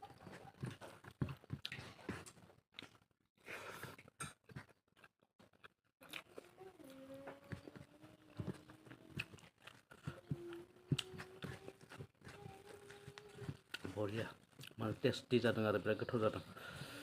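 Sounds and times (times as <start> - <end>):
close chewing with mouth clicks: 0.0 - 3.0, 3.8 - 15.2.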